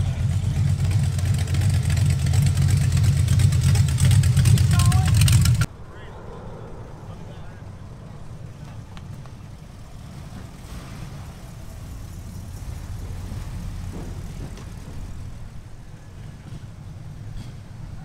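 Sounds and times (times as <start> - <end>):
car engines passing slowly: 0.0 - 18.0.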